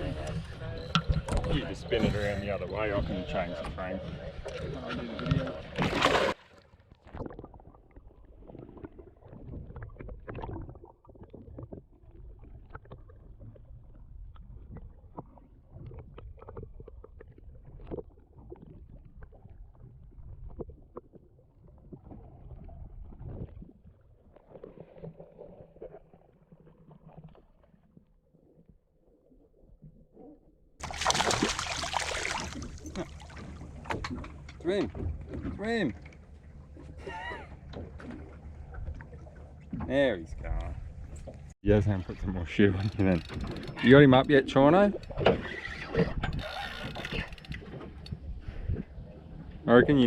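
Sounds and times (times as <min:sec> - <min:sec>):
water sloshing against boat hull: 0:00.0 - 0:26.2, 0:30.8 - 0:50.0.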